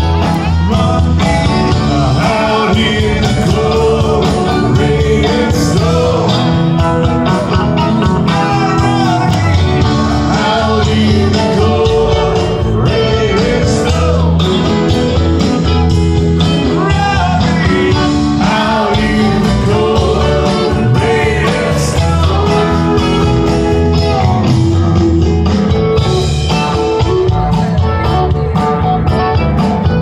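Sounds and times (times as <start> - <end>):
electric guitar: 0.0 - 30.0
live rock band playing: 0.0 - 30.0
person singing: 0.1 - 15.0, 16.6 - 25.8.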